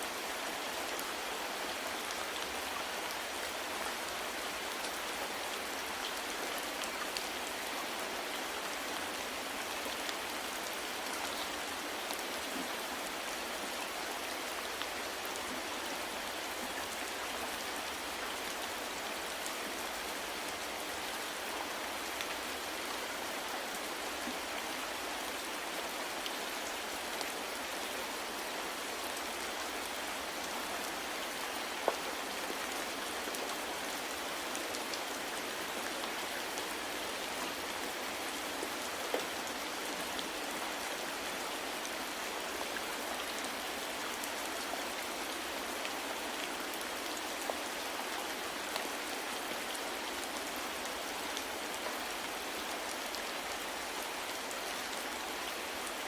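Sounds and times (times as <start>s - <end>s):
soft rain: 0.0s - 56.0s.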